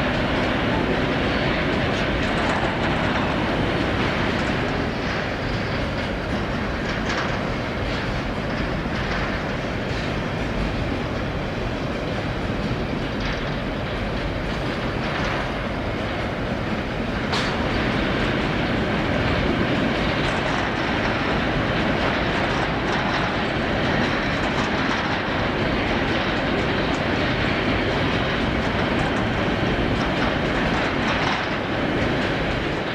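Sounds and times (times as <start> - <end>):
train wheels clattering: 0.0 - 32.9.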